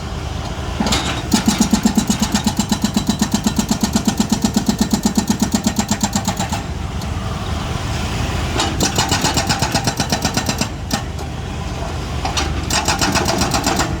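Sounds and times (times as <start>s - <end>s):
diesel engine rumbling: 0.0s - 5.7s, 6.4s - 14.0s.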